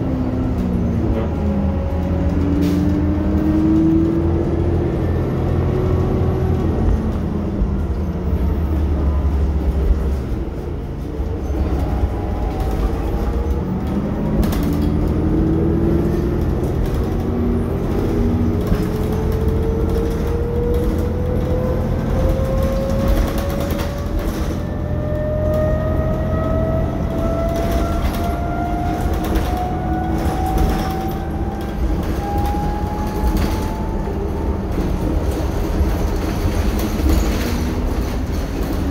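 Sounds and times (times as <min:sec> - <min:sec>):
bus body rattling: 0:00.0 - 0:38.9
bus engine and road rumble: 0:00.0 - 0:38.9.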